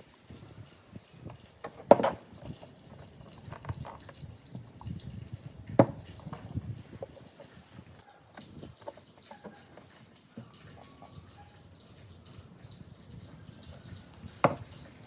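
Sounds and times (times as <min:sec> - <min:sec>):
scattered taps and rustling: 0:00.3 - 0:15.0.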